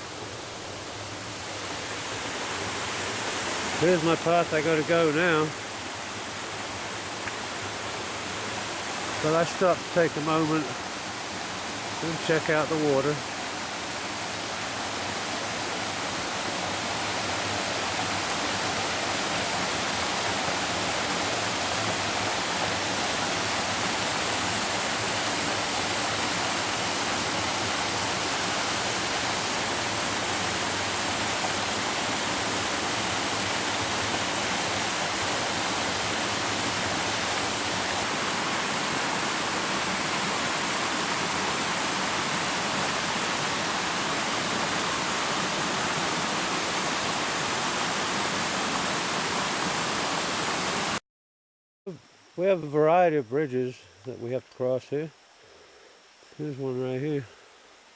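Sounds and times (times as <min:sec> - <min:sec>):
stream rushing over rock: 0:00.0 - 0:51.0.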